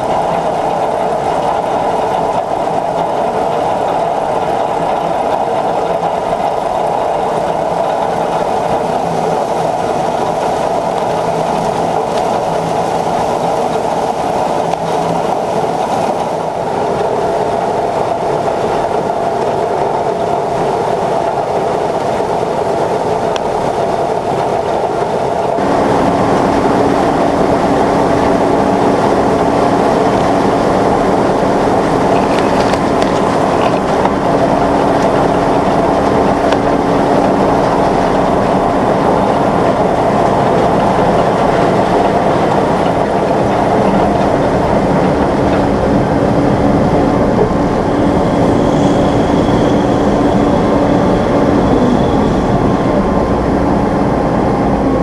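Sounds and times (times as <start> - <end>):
machinery clattering: 0.0 - 48.2
combine harvester drone: 0.0 - 55.0
steady hum: 0.0 - 55.0.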